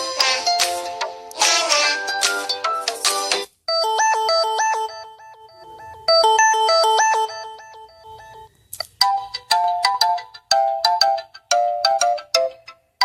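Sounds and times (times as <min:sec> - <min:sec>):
ringtone of sharply struck notes: 0:00.0 - 0:12.7
melodic ringtone: 0:00.0 - 0:13.0.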